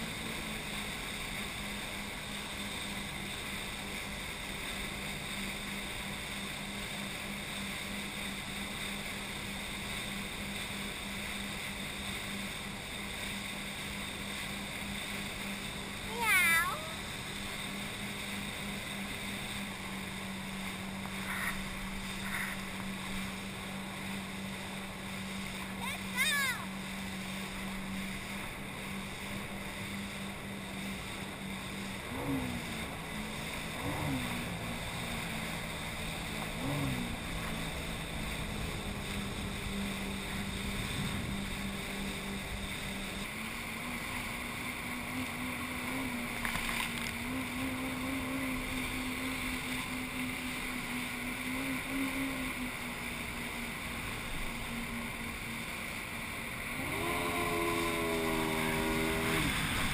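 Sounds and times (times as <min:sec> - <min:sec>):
personal watercraft engine: 0:00.0 - 0:59.9
rush of wind and water spray: 0:00.0 - 0:59.9.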